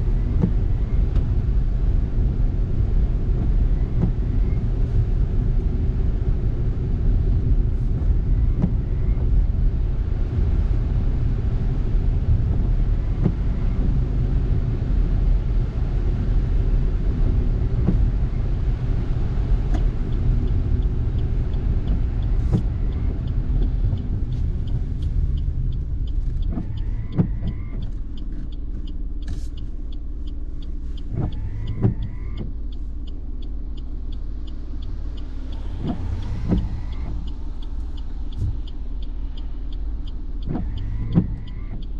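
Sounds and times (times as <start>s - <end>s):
light regular ticking: 0.1s - 41.9s.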